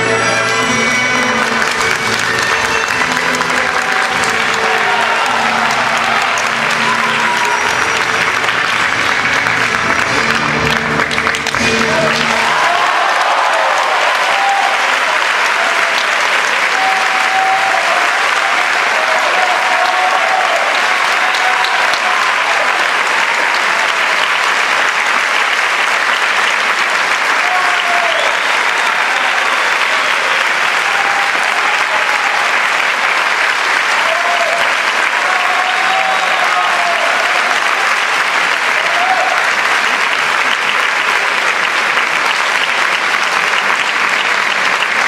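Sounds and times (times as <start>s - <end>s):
audience clapping: 0.0s - 45.0s.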